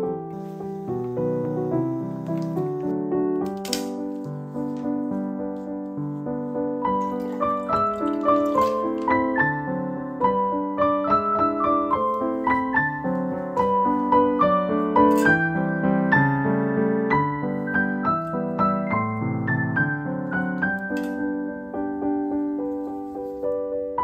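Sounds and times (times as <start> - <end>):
background piano music: 0.0 - 24.0.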